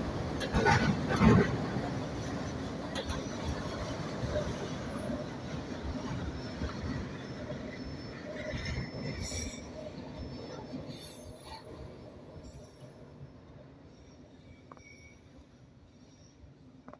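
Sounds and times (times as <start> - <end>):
freight train rumbling on rails: 0.0 - 15.1
faint wheel squeals and clinks: 0.0 - 16.5.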